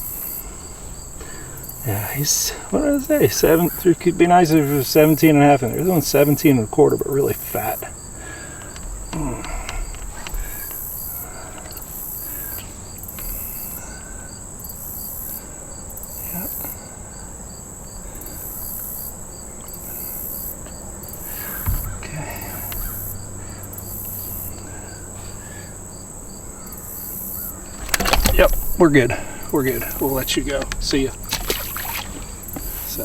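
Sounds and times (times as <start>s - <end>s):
insect buzz pulsing: 0.0s - 33.0s
insect high trill: 0.0s - 33.0s
insect ticking chirp: 0.0s - 33.0s.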